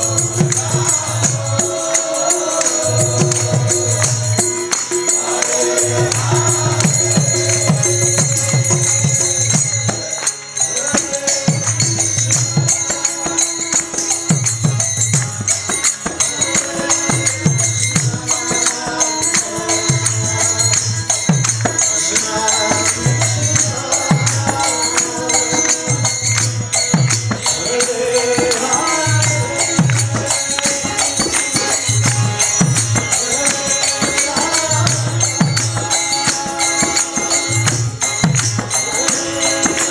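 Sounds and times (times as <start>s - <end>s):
group chanting: 0.0s - 14.2s, 16.3s - 39.9s.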